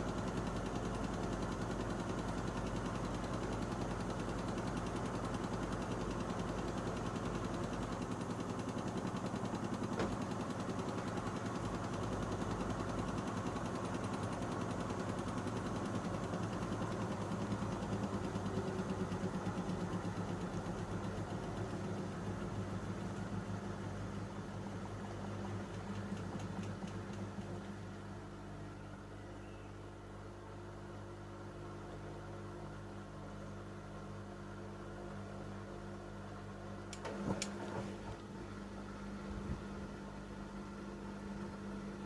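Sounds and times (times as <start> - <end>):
washing machine motor humming: 0.0 - 42.0.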